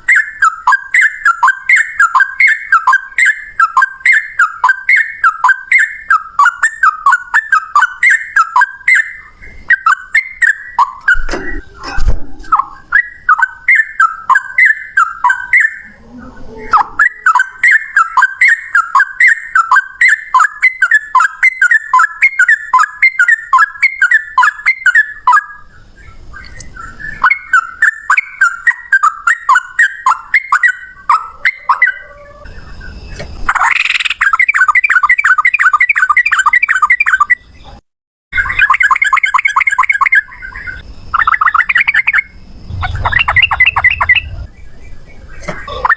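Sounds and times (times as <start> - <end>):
bird singing chirped whistled notes: 0.0 - 11.8, 12.5 - 45.9.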